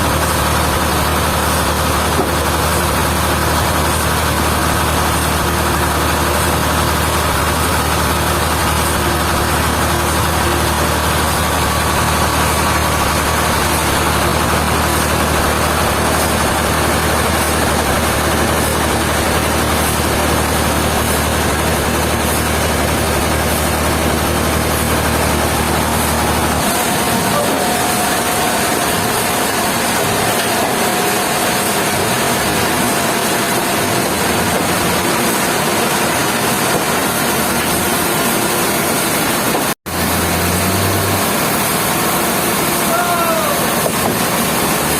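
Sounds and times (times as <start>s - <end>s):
heavy engine idling: 0.0s - 44.9s.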